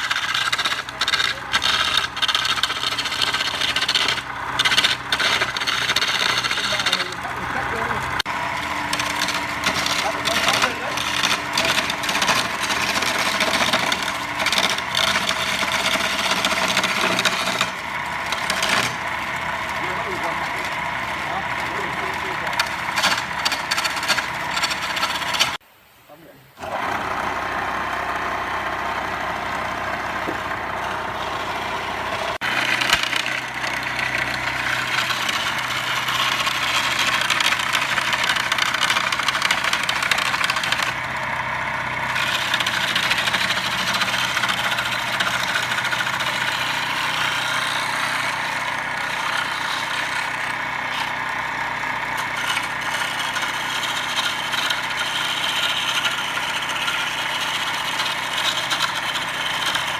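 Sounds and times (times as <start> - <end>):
lathe motor running: 0.0 - 25.6, 26.6 - 59.9.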